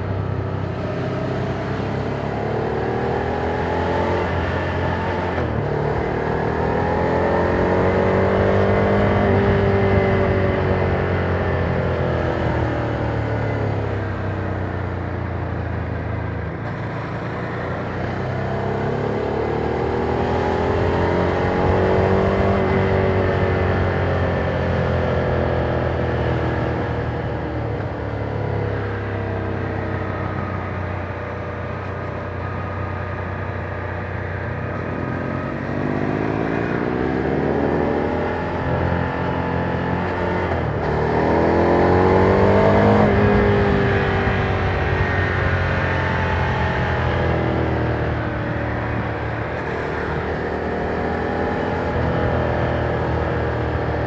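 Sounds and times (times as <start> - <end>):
motorcycle engine revving: 0.0 - 14.4, 15.6 - 54.0.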